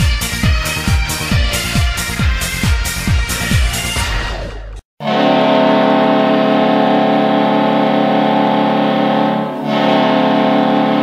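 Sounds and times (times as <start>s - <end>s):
goal horn blowing: 0.0s - 11.0s.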